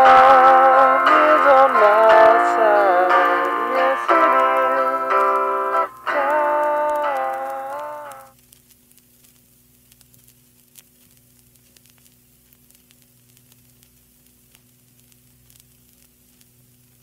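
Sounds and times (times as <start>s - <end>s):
electrical hum: 0.0s - 17.0s
faint hiss: 0.0s - 17.0s
small crackles: 0.0s - 17.0s.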